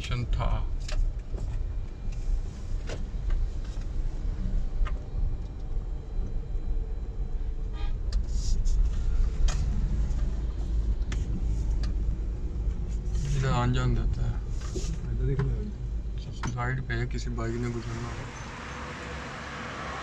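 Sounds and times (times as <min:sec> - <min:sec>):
car road rumble inside cabin: 0:00.0 - 0:20.0.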